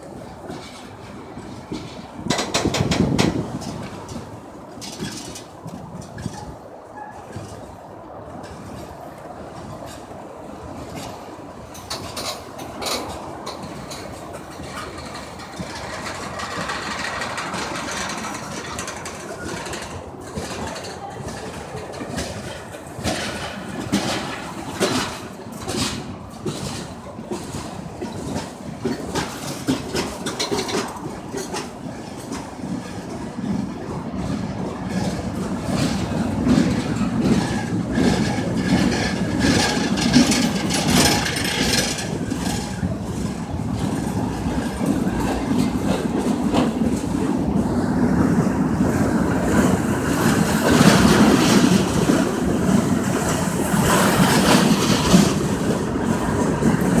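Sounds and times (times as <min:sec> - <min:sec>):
train rumble: 0:00.0 - 0:57.0
train wheels clicking over rail joints: 0:00.0 - 0:57.0.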